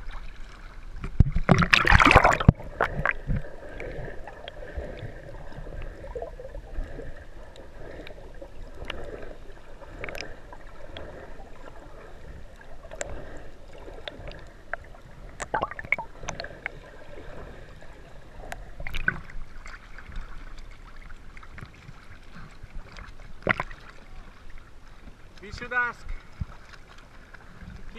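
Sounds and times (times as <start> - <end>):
sharp underwater clicks and crackles: 0.0 - 17.8, 18.4 - 27.9
underwater rumble and gurgle: 0.0 - 25.4, 26.0 - 27.9.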